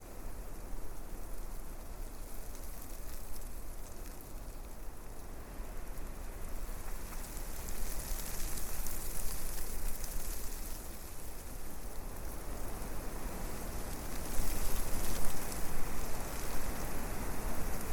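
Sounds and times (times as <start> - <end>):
wind through trees: 0.0 - 17.9.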